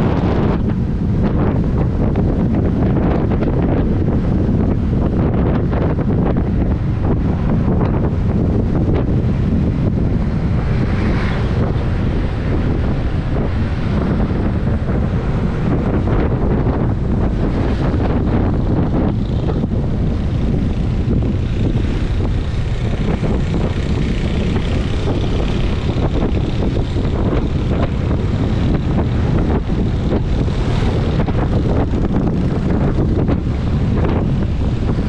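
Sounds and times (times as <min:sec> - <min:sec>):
road and engine noise: 0:00.0 - 0:35.0
wind rumble on microphone: 0:00.0 - 0:35.0.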